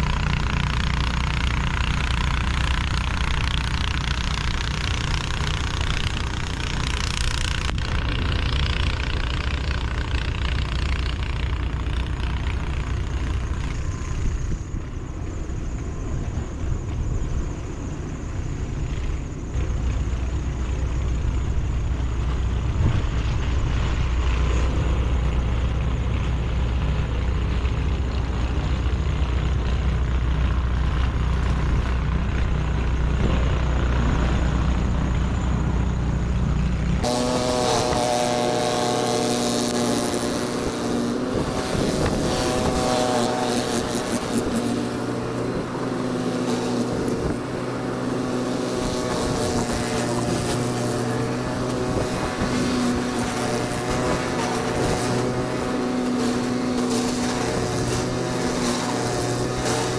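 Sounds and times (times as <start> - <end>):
truck engine rumbling: 0.0 - 59.9.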